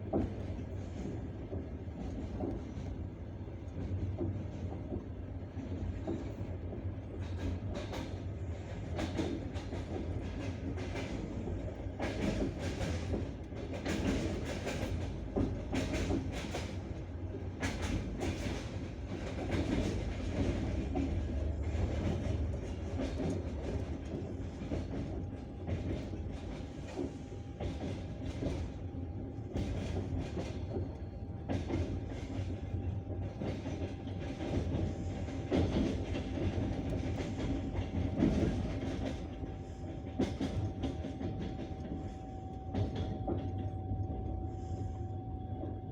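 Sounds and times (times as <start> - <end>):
train wheels clattering over joints: 0.0 - 44.8.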